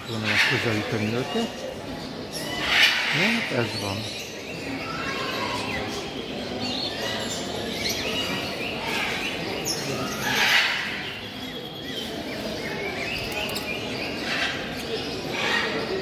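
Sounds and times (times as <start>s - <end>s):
low hubbub: 0.0s - 16.0s
parrots chirping and calling: 0.0s - 16.0s.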